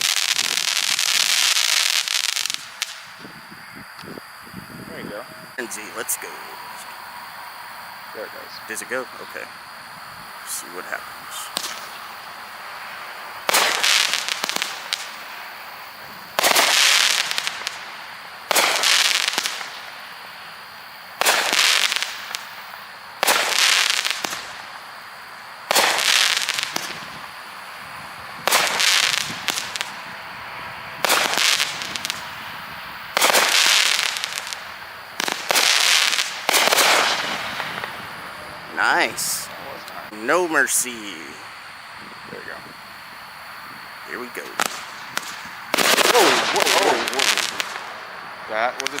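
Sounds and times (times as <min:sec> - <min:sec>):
firework bangs with crackling: 0:00.0 - 0:06.6, 0:08.2 - 0:41.4, 0:42.0 - 0:49.0.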